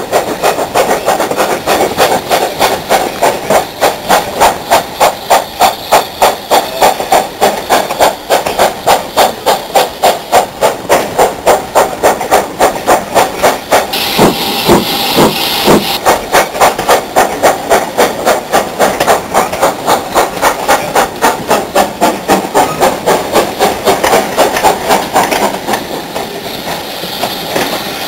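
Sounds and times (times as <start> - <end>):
steam hissing: 0.0 - 28.0
steam locomotive chuffing: 0.0 - 28.0.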